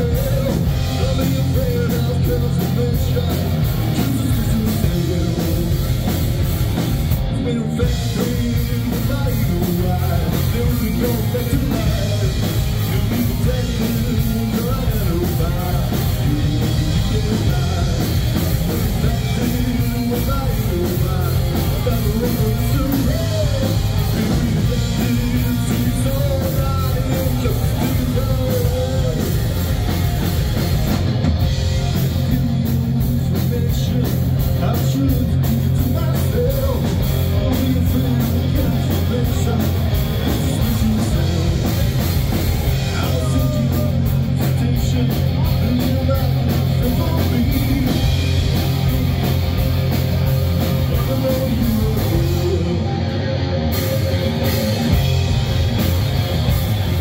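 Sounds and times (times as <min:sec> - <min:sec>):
man singing into microphone: 0:00.0 - 0:06.0, 0:07.3 - 0:18.1, 0:18.7 - 0:29.3, 0:32.0 - 0:41.8, 0:42.8 - 0:49.2, 0:50.8 - 0:55.0
live rock band playing: 0:00.0 - 0:57.0.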